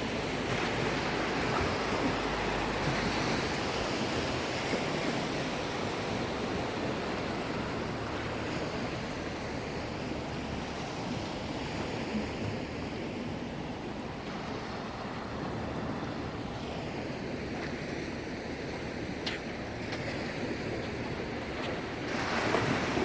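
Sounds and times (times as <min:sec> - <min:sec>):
sea waves washing onto shore: 0:00.0 - 0:23.0.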